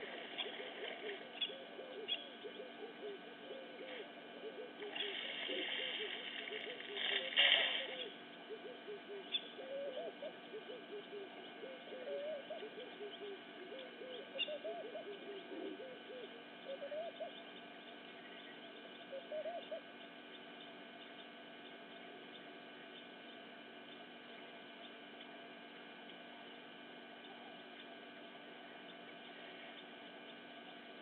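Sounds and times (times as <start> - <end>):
birds cooing: 0.0 - 31.0
faint steady hum: 0.0 - 31.0.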